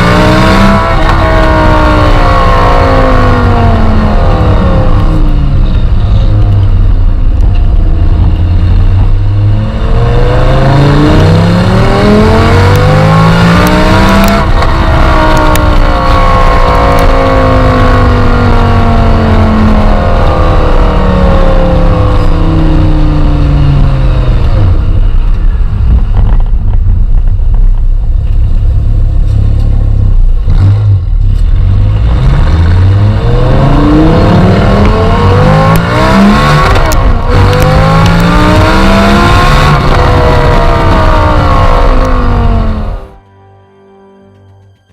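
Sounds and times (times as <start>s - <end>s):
sports car engine revving: 0.0s - 26.8s, 28.2s - 43.2s.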